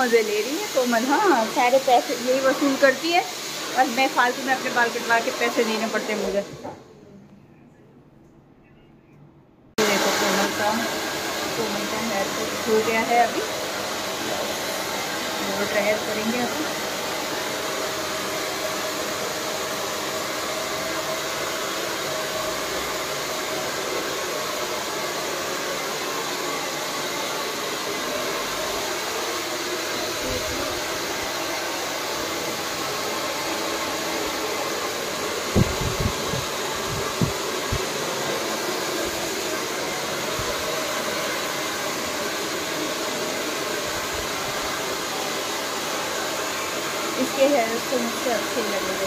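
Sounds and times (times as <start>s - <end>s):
hair dryer blowing: 0.0s - 6.9s, 9.8s - 49.0s.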